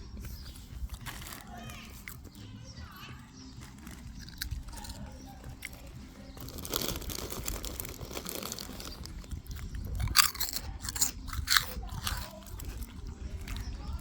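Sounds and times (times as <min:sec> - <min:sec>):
chewing crisp food: 0:00.0 - 0:14.0.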